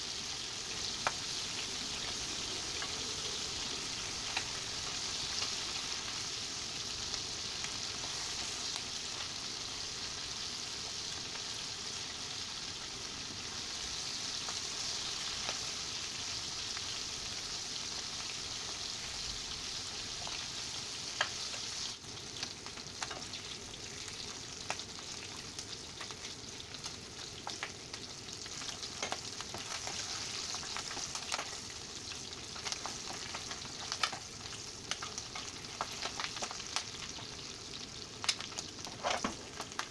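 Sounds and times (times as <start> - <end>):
calamari sizzling in hot oil: 0.0 - 39.9.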